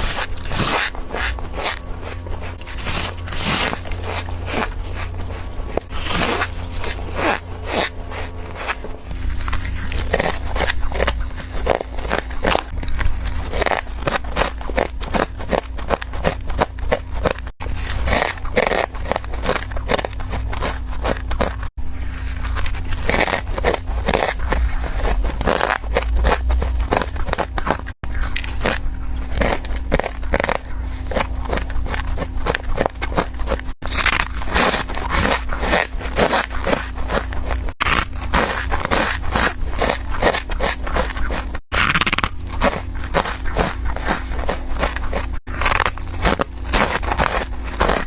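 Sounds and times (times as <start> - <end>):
frost being chewed crunchily: 0.0 - 48.0.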